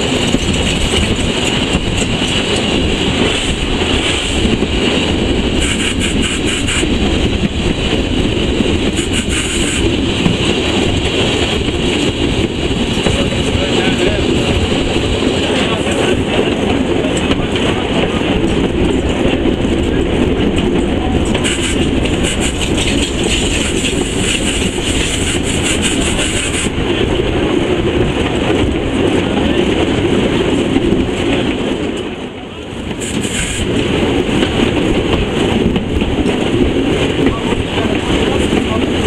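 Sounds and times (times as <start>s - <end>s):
steam locomotive running noise: 0.0s - 39.0s.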